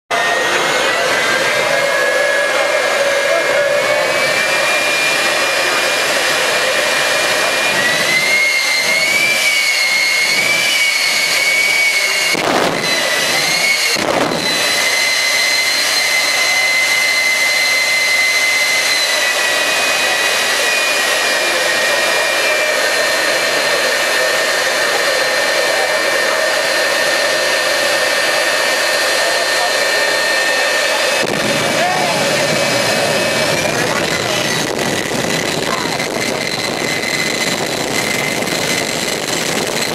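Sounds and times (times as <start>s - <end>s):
jet engine whining and roaring: 0.1s - 39.9s.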